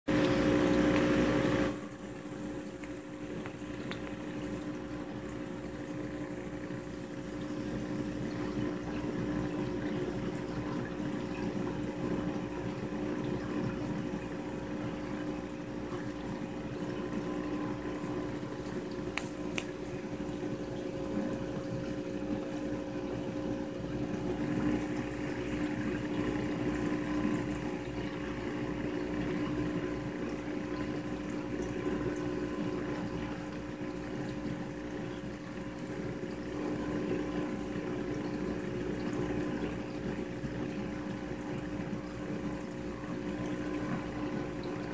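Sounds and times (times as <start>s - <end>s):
aquarium pumps humming: 0.1s - 44.9s
circulating water: 0.1s - 44.9s.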